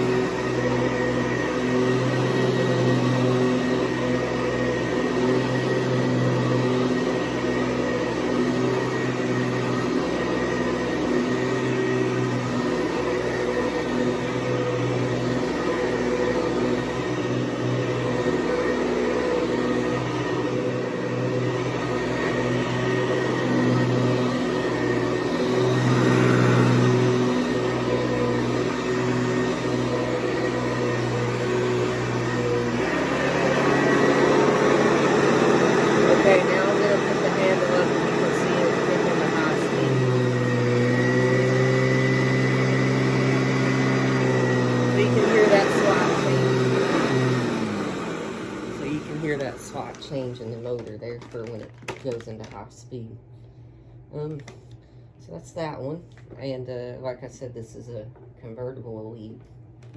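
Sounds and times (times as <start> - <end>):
upright vacuum cleaner running: 0.0 - 53.0.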